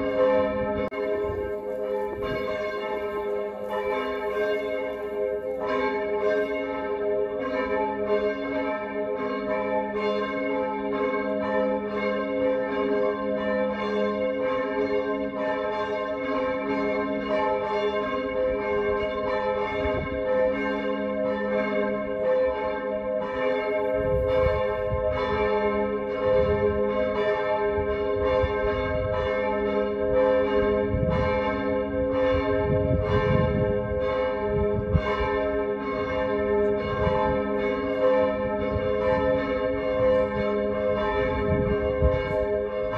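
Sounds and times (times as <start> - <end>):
church bells pealing: 0.0 - 42.9.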